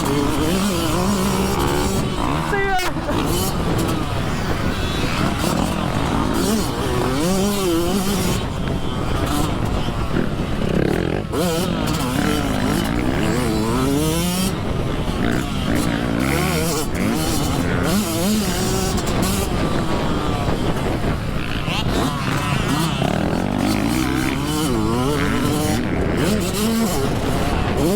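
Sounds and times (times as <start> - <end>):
dirt bike engine revving: 0.0 - 27.9.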